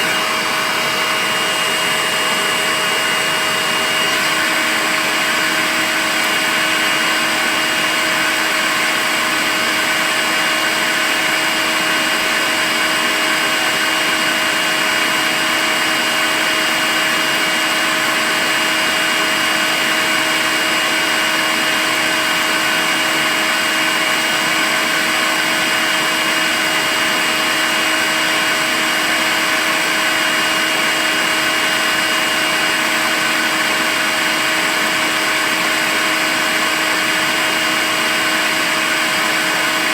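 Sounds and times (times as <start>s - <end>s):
cordless vacuum cleaner running: 0.0s - 39.9s.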